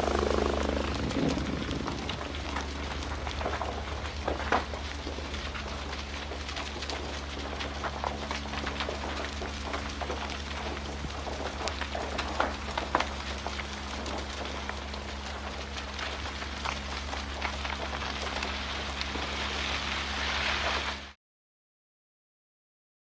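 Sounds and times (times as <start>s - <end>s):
fire crackling and popping: 0.0s - 21.2s.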